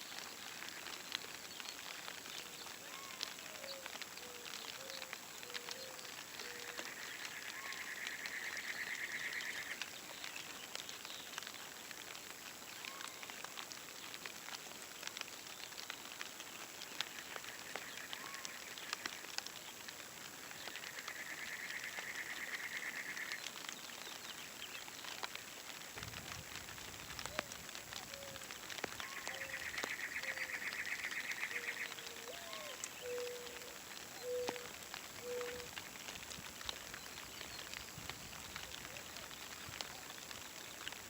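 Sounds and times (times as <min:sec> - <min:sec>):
rain drops pattering: 0:00.0 - 0:41.0.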